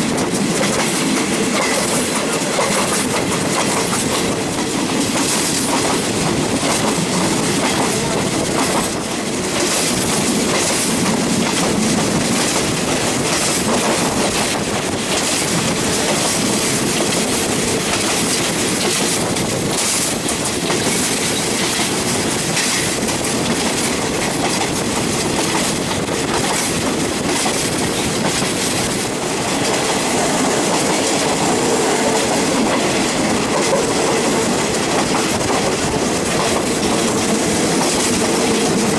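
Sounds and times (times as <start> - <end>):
clatter over rail joints: 0.0 - 38.9
train wheels rumbling on rail: 0.0 - 38.9.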